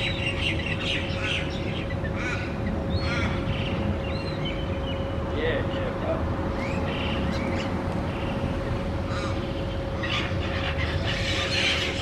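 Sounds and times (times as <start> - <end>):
birds calling and squawking: 0.0 - 12.0
constant hum: 0.0 - 12.0.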